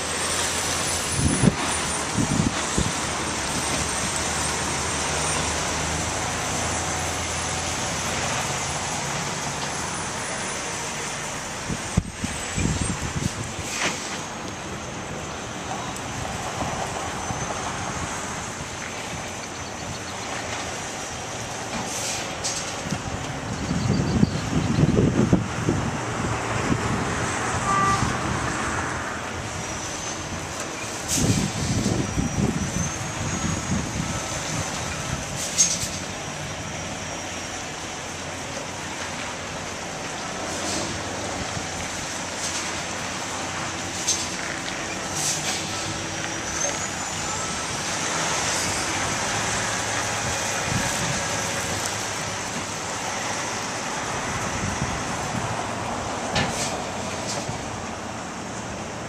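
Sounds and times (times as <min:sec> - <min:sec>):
truck engine rumble and hiss: 0:00.0 - 0:59.0.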